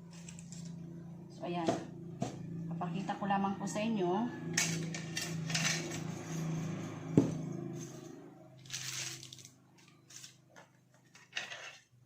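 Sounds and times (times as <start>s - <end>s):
low steady hum: 0.0s - 10.3s.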